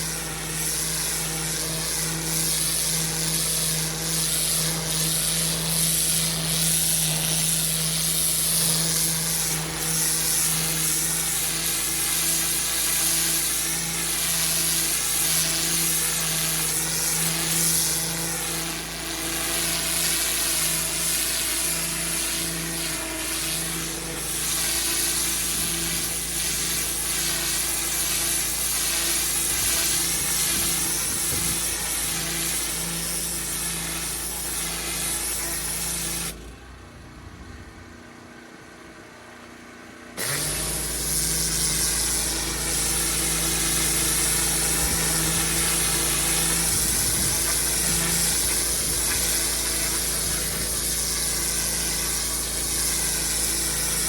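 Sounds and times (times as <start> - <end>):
water jet hissing on paving: 0.0 - 36.5, 40.2 - 54.0
pressure washer motor hum: 0.0 - 54.0.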